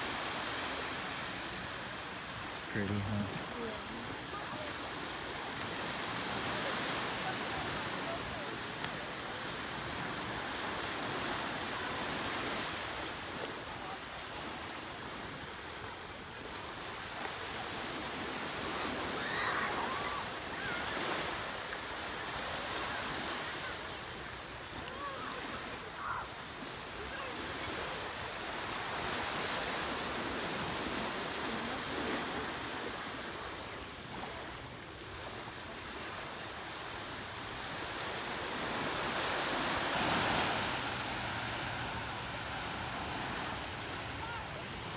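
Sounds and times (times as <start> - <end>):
ocean surf breaking on a beach: 0.0 - 44.9.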